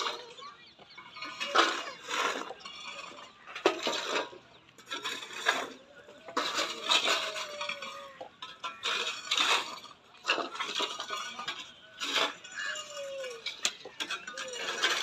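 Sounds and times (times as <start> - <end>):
shovel scraping rubble: 0.0 - 15.0
rubble clattering into metal pan: 1.1 - 15.0.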